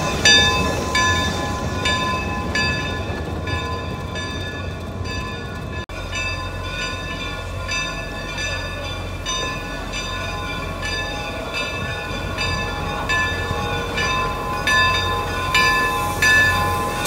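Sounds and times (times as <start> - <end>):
locomotive bells ringing: 0.0 - 17.0.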